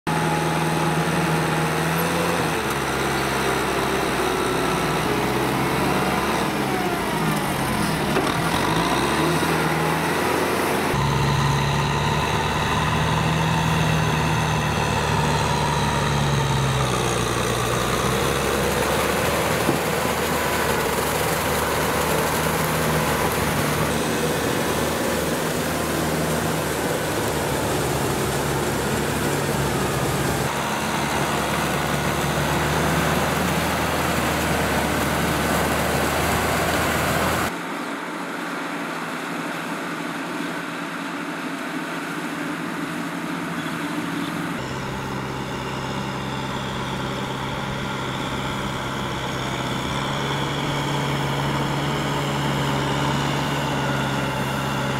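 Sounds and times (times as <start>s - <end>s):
tractor diesel engine running: 0.1s - 54.9s.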